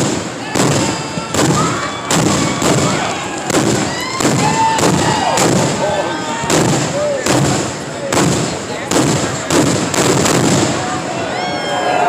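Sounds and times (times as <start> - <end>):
fireworks booming: 0.0 - 11.3.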